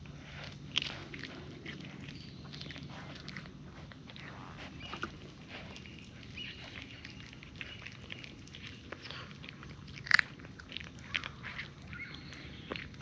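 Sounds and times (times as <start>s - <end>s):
cats crunching dry kibble: 0.0s - 13.0s.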